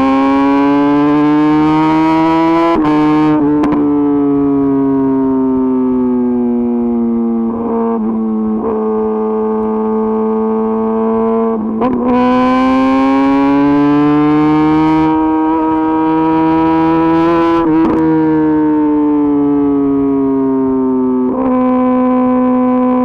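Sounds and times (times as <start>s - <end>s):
motorcycle engine under way: 0.0s - 23.0s.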